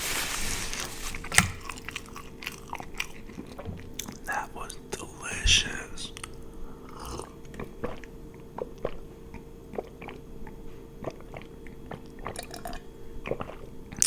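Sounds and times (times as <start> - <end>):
chewing crunchy food: 0.0 - 4.4, 6.2 - 14.0
faint steady hum: 0.0 - 14.0.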